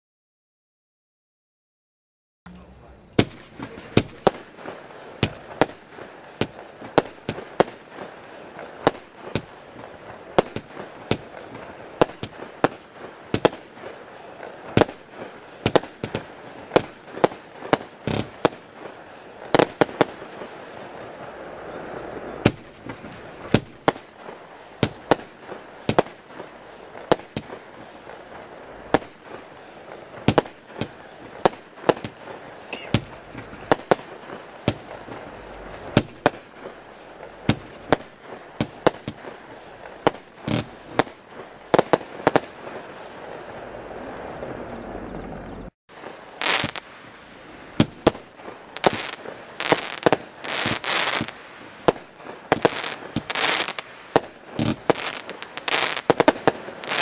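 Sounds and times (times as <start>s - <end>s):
firework bangs: 2.5s - 44.7s, 45.3s - 57.0s
firework hiss: 2.5s - 57.0s.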